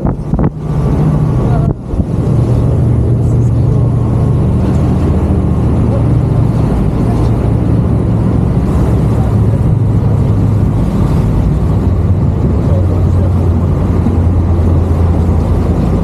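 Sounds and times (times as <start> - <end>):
boat engine droning: 0.0 - 16.0
water rushing: 0.0 - 16.0.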